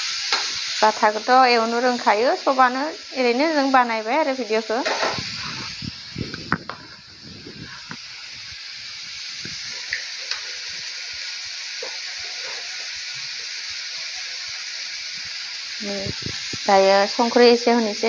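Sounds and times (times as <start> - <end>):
frying in hot oil sizzling: 0.0 - 18.0.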